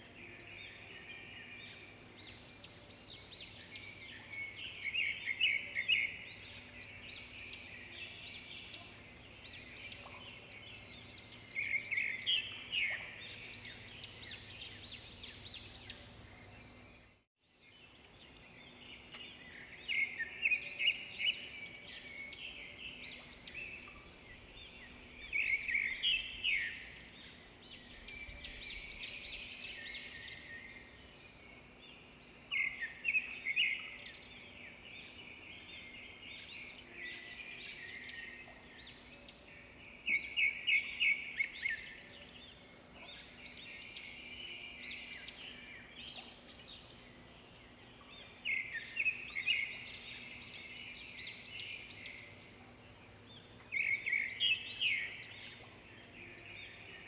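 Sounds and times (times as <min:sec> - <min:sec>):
songbirds chirping and singing: 0:00.0 - 0:57.0.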